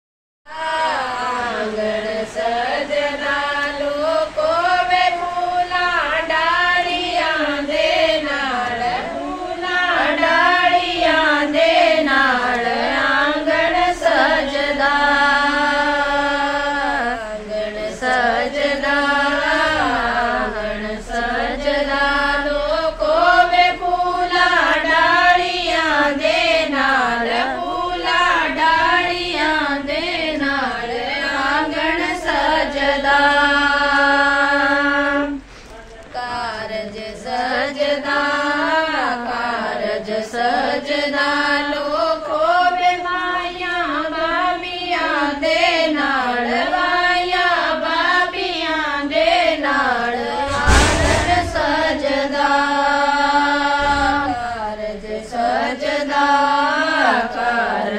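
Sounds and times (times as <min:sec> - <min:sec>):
women singing in unison: 0:00.5 - 0:57.9.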